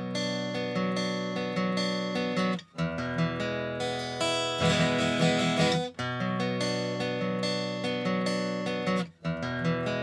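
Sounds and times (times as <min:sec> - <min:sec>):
strummed acoustic guitar music: 0:00.0 - 0:10.0.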